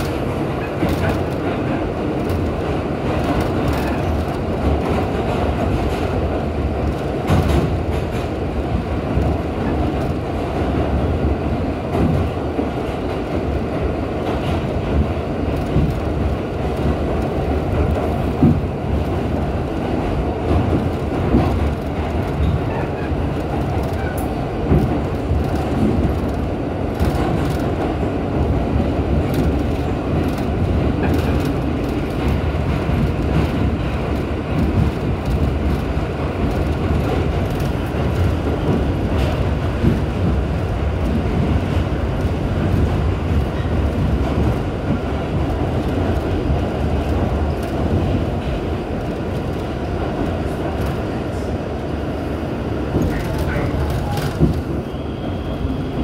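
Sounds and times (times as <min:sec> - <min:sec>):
wheels clicking on rails: 0:00.0 - 0:51.2
subway train rumble: 0:00.0 - 0:56.0.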